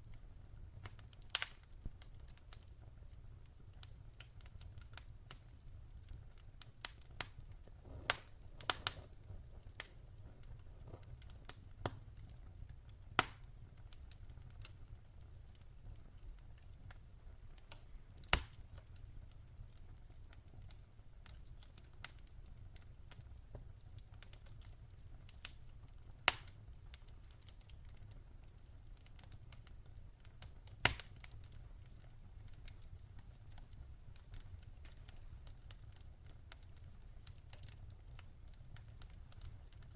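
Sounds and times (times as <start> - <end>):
campfire crackling: 0.0 - 39.9
fire pops: 0.8 - 39.9.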